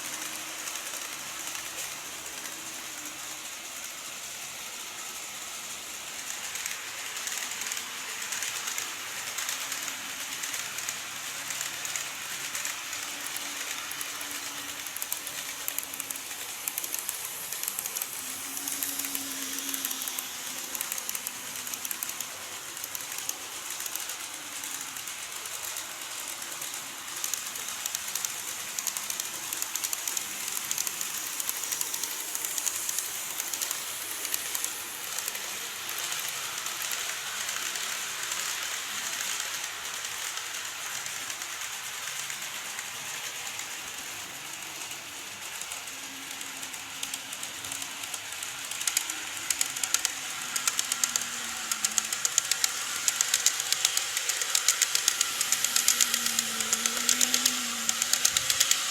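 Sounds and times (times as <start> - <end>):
faint motor hum: 0.0 - 58.9
model train wheels clicking: 0.0 - 58.9
train running hiss: 0.0 - 58.9.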